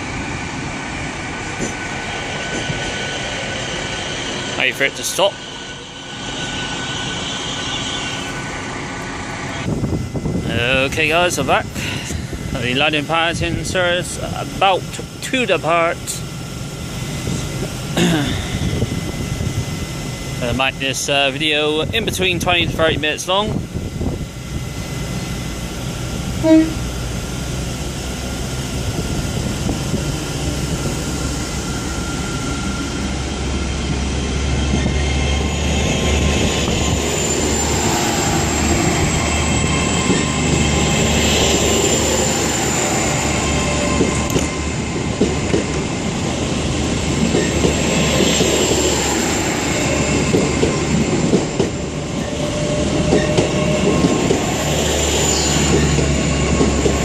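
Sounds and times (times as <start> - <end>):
diesel train pulling away: 0.0 - 57.0.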